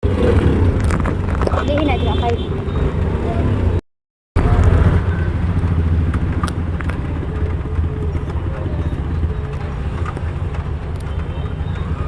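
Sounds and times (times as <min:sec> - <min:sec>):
vehicle engine low rumble: 0:00.0 - 0:03.8, 0:04.4 - 0:12.0.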